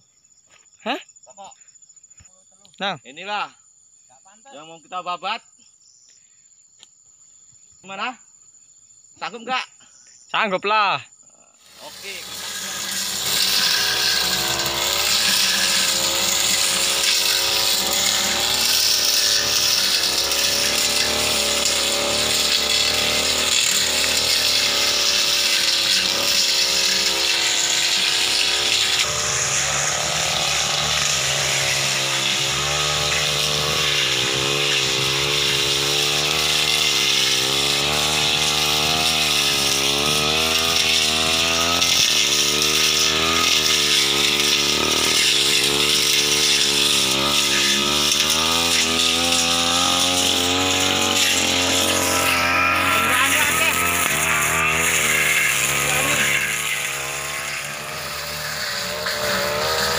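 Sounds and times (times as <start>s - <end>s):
brush cutter engine running: 11.6s - 59.9s.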